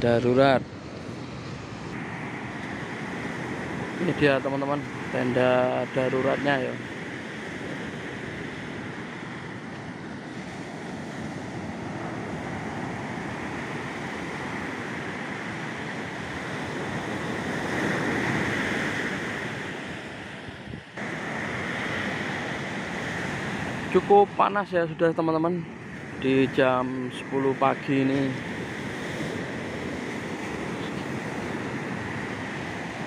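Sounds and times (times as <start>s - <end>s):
ocean waves breaking on sand: 0.0s - 33.0s
wind on microphone: 0.0s - 33.0s.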